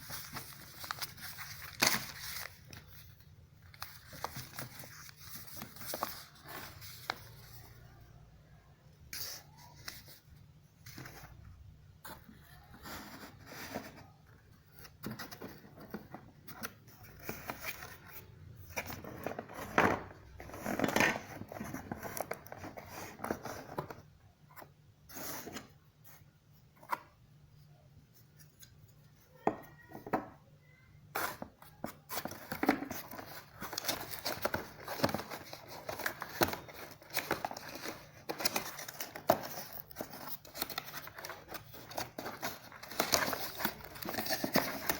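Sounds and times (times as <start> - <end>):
packaging rustling and scraping: 0.0 - 8.0, 9.2 - 26.2, 31.1 - 44.9.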